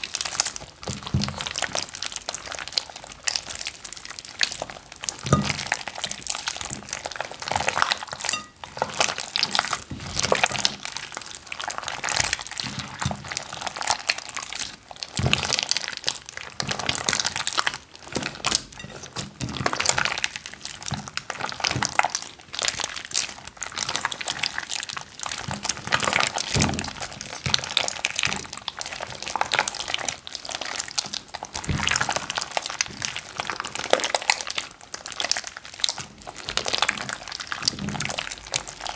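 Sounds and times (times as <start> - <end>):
wet slime squelching and popping: 0.0 - 38.9.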